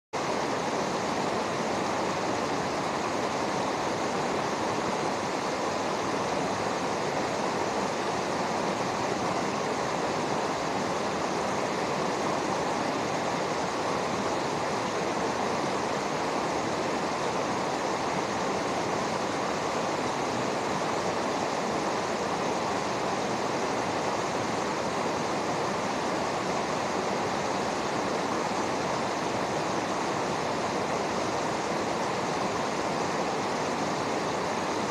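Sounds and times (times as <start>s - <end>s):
river rushing over rocks: 0.2s - 34.9s.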